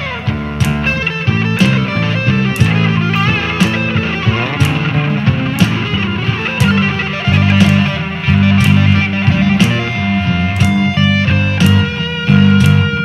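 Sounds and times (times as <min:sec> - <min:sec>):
blues-rock instrumental: 0:00.0 - 0:13.0
drum and cymbal hits: 0:00.0 - 0:13.0.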